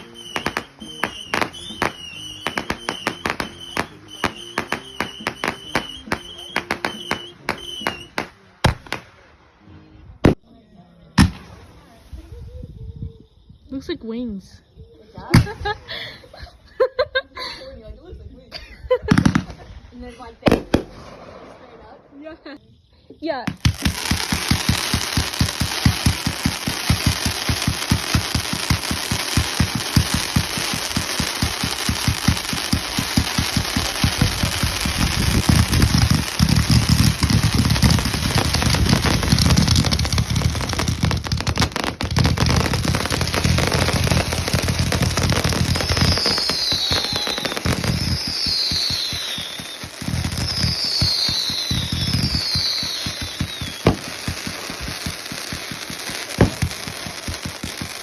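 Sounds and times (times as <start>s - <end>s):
falling firework whistles: 0.0s - 9.3s, 15.3s - 16.5s, 19.0s - 22.3s, 23.2s - 58.0s
firework sharp cracks: 0.0s - 9.4s, 11.1s - 12.0s, 19.1s - 22.2s, 23.5s - 58.0s
fireworks crackling: 0.0s - 9.4s, 19.0s - 22.6s, 23.2s - 58.0s.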